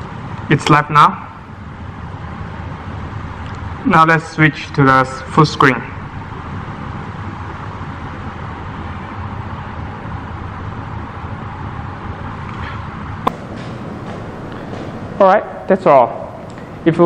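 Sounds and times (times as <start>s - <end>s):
room noise: 0.0s - 17.0s.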